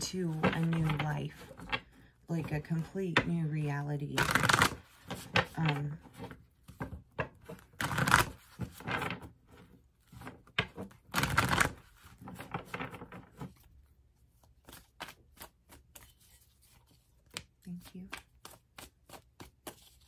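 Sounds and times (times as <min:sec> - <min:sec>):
cards rustling while shuffled: 0:00.0 - 0:03.5, 0:04.1 - 0:20.0.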